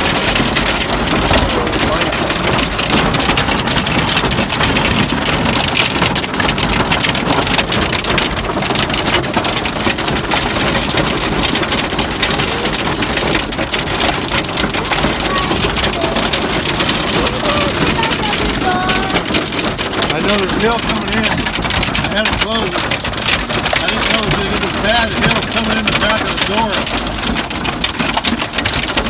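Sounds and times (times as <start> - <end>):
hail hammering on car roof: 0.0 - 29.0.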